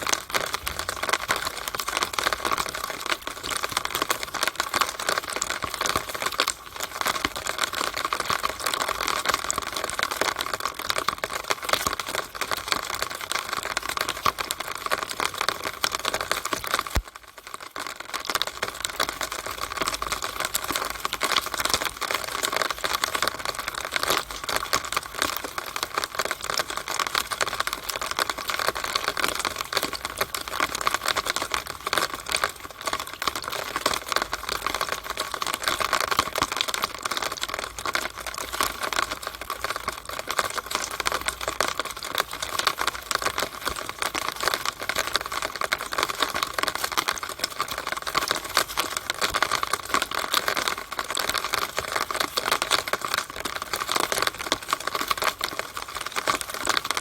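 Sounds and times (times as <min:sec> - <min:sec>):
rainwater dripping in downspout: 0:00.0 - 0:57.0.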